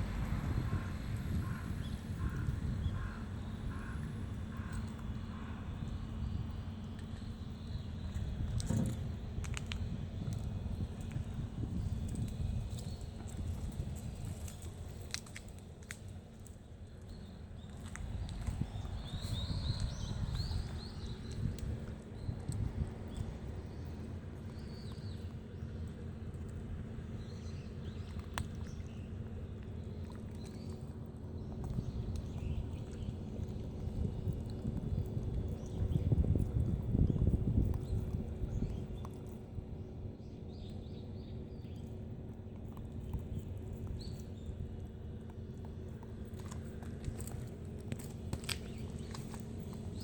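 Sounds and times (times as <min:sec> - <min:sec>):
low rumbling noise: 0:00.0 - 0:50.0.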